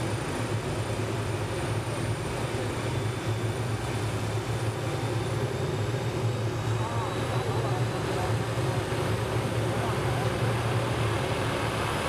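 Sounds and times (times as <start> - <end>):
helicopter rotor beat: 0.0 - 12.0
turbine engine high whine: 0.0 - 12.0.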